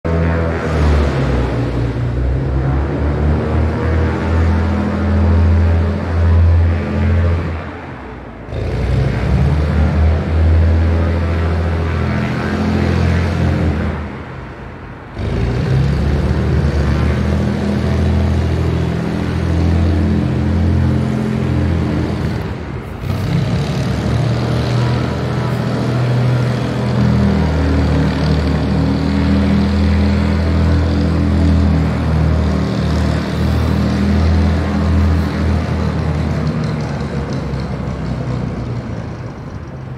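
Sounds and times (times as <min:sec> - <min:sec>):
propeller plane engines droning: 0:00.0 - 0:39.9.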